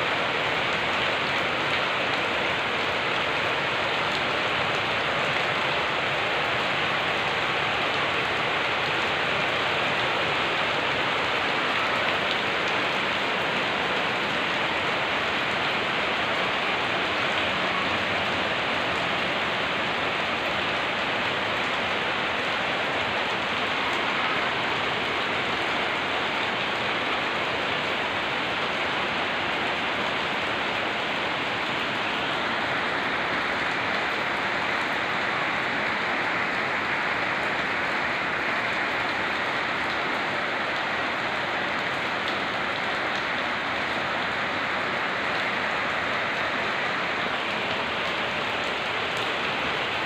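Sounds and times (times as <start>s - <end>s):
rain on wet brick paving: 0.0s - 50.0s.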